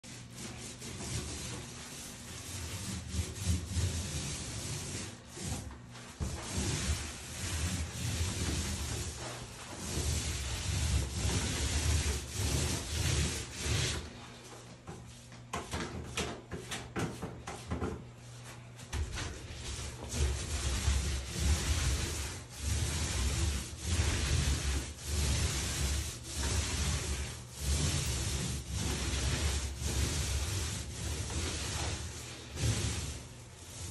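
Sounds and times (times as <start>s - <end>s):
paint roller rubbing on wall: 0.0s - 33.9s.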